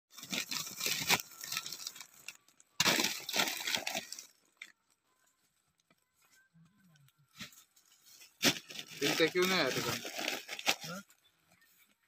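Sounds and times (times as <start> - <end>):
paper crinkling and rustling: 0.1 - 5.5, 7.4 - 12.0.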